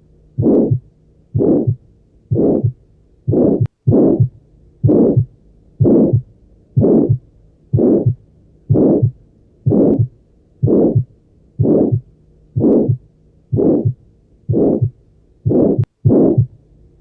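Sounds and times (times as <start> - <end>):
whooshing heart murmur: 0.4 - 0.8, 1.4 - 16.6.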